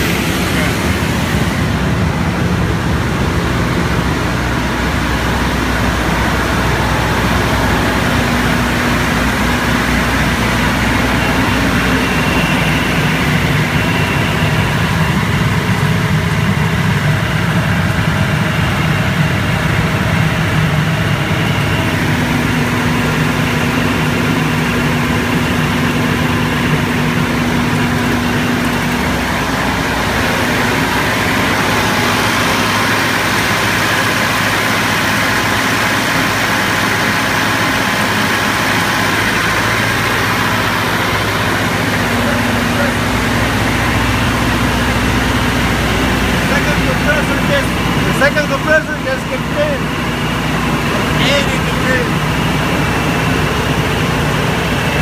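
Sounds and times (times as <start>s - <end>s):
engine and blower running: 0.0s - 55.0s.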